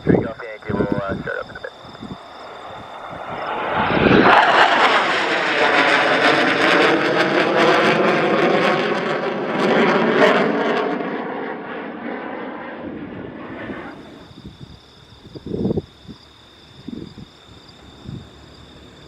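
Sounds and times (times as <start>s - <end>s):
jet passing by: 0.0s - 19.0s.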